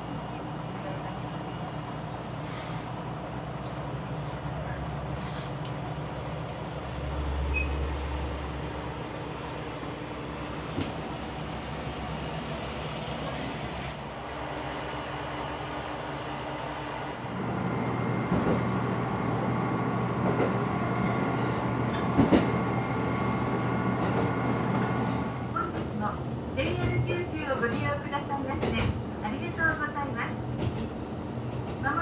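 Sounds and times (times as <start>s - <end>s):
diesel railcar engine drone: 0.0s - 32.0s
train wheels on rails: 0.6s - 14.2s, 17.4s - 32.0s.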